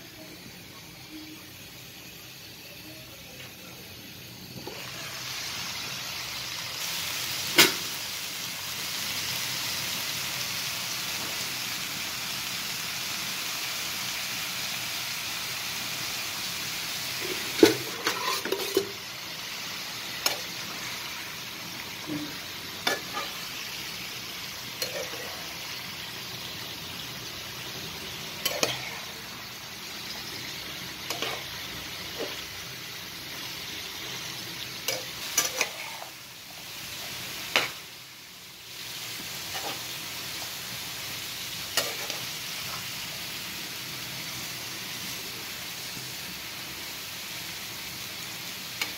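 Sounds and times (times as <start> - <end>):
greens sizzling in a pan: 0.0 - 48.9.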